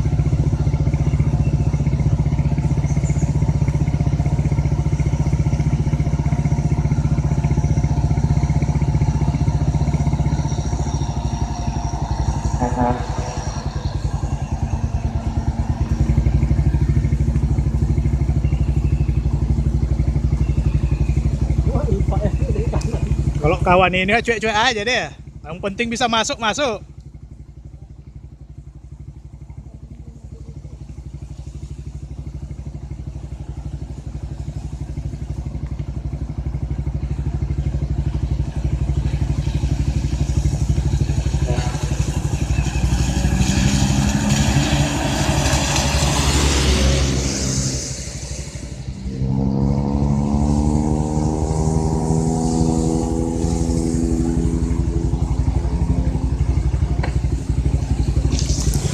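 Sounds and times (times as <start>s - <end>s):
lorry diesel engine pulling uphill: 0.0s - 58.9s.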